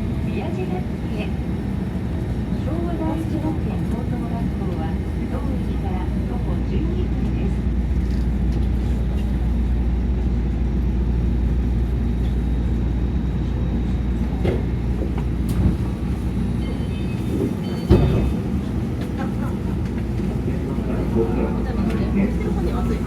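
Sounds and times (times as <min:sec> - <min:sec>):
monorail car running rumble: 0:00.0 - 0:23.0.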